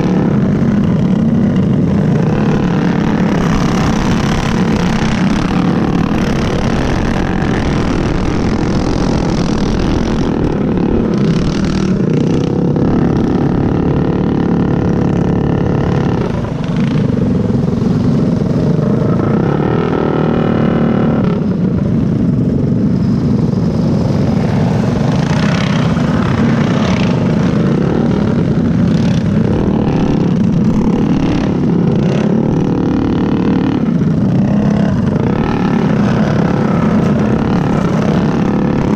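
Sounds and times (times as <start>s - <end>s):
go-kart engine running hard: 0.0s - 38.9s
other kart engines nearby: 0.0s - 38.9s.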